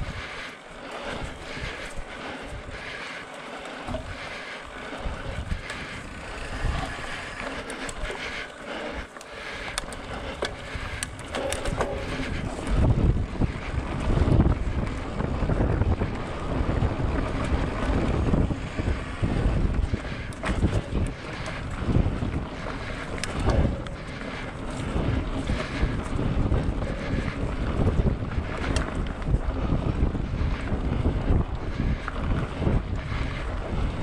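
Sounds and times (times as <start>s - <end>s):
bicycle riding noise: 0.0s - 34.0s
wind buffeting microphone: 0.0s - 34.0s.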